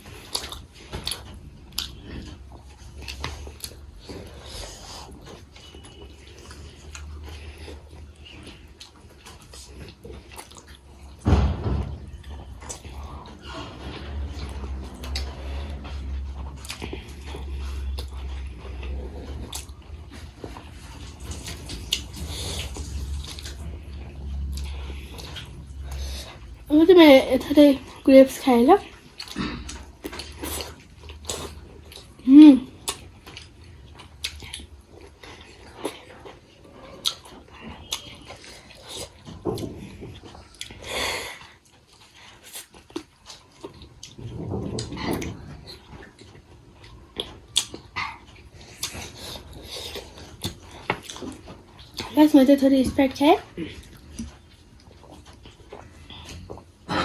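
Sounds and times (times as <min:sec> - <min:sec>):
mouth clicks and smacks eating: 0:00.0 - 0:11.2, 0:12.3 - 0:26.7, 0:28.8 - 0:52.2, 0:53.4 - 0:56.9
person chewing food: 0:00.0 - 0:26.7, 0:27.4 - 0:52.3, 0:53.4 - 0:57.0.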